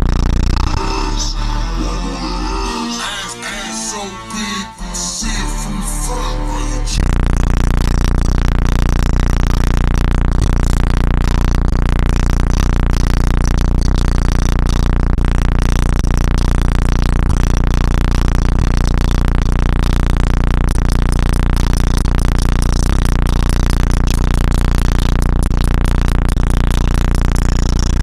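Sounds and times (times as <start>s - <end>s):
distorted low bass tone: 0.0s - 28.0s.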